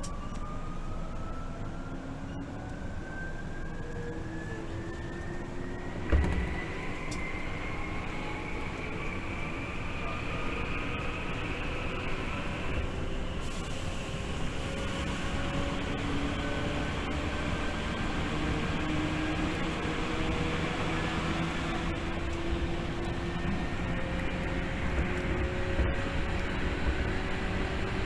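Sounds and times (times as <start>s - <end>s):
traction motor whine: 0.0s - 28.0s
wheel and rail rumble: 0.0s - 28.0s.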